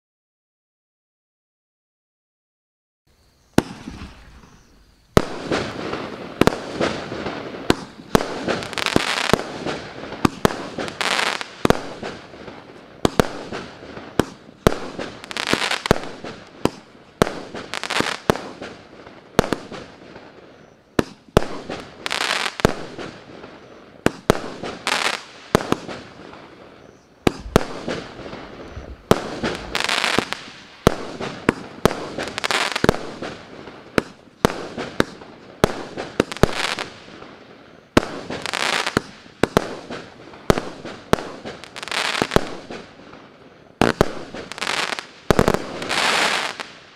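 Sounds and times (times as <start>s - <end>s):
firework crackling: 3.5s - 46.9s
firework launch reports and bursts: 3.5s - 46.9s.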